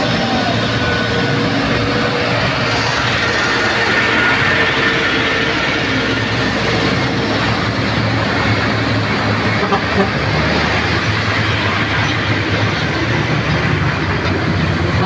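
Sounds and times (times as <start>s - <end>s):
heavy trucks passing: 0.0s - 15.0s.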